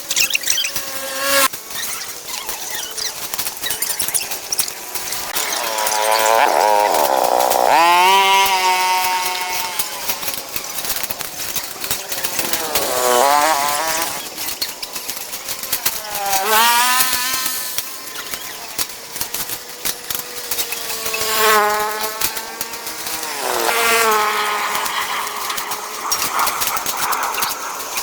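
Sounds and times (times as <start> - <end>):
small engine revving: 0.0 - 28.0.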